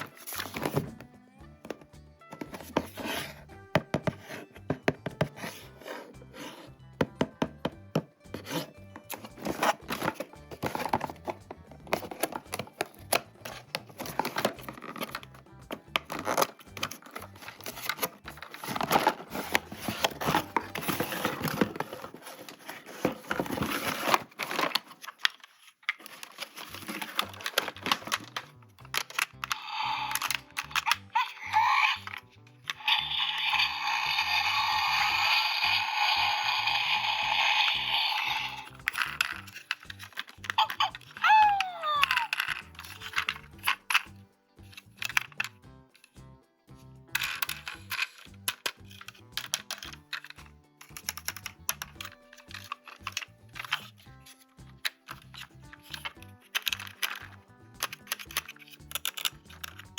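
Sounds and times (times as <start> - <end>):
plastic toys and packaging handled: 0.0 - 59.9.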